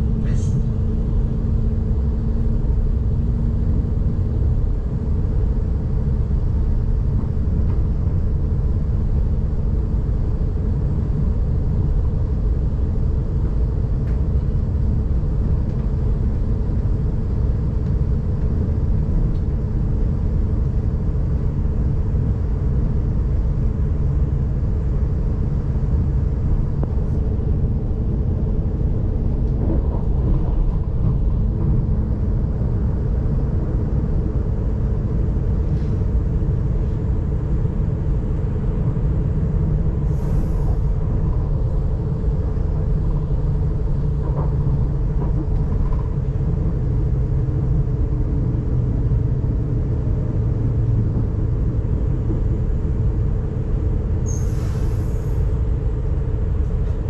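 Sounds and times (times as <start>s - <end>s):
constant hum: 0.0s - 57.0s
train wheels rumbling on rails: 0.0s - 57.0s.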